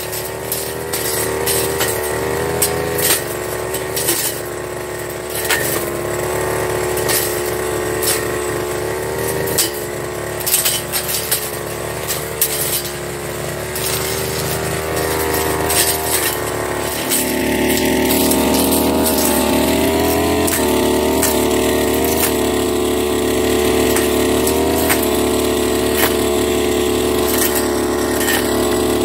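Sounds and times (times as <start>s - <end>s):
blade cracking stems and twigs: 0.0s - 29.0s
brush cutter engine running: 0.0s - 29.0s.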